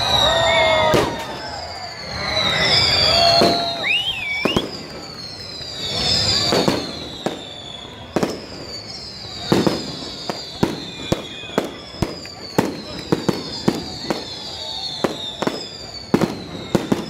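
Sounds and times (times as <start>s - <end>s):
falling firework whistles: 0.0s - 17.0s
fireworks bangs: 0.0s - 17.0s.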